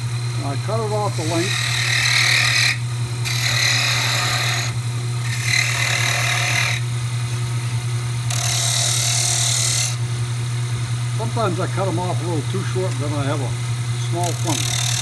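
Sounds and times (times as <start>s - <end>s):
chisel cutting spinning wood: 0.0s - 7.6s, 8.2s - 10.2s, 11.2s - 15.0s
wood lathe humming: 0.0s - 10.4s, 11.1s - 15.0s.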